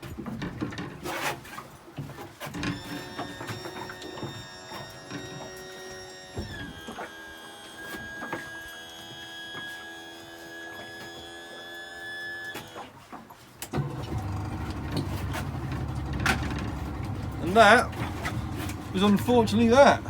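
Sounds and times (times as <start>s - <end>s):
boat outboard motor running: 1.6s - 11.8s, 12.4s - 20.0s.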